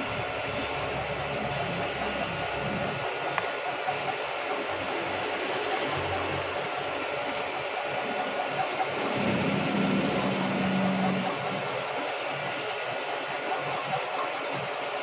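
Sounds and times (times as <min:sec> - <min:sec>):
milling machine whirring: 0:00.0 - 0:15.0.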